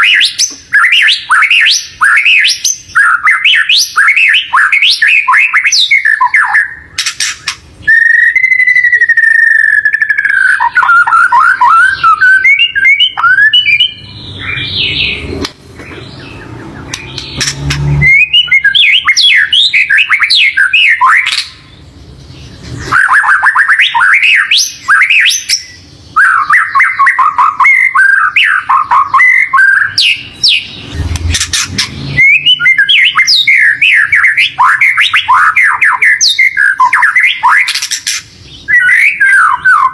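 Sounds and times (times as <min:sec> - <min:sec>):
bird singing whistles and trills: 0:00.0 - 0:21.8, 0:22.4 - 0:39.9.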